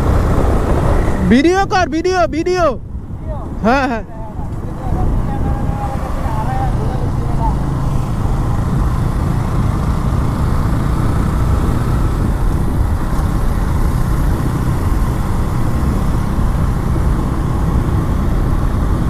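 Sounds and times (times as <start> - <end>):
wind on microphone: 0.0 - 1.4, 2.8 - 19.0
motorcycle engine and road noise: 0.0 - 19.0.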